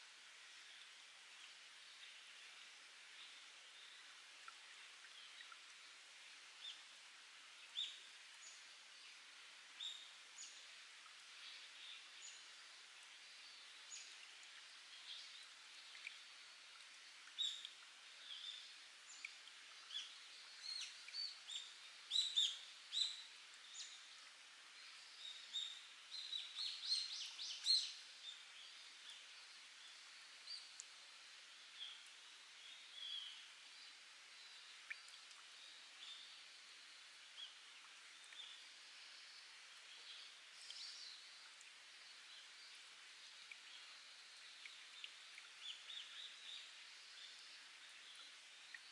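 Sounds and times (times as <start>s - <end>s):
trickle of spring water: 0.0s - 48.9s.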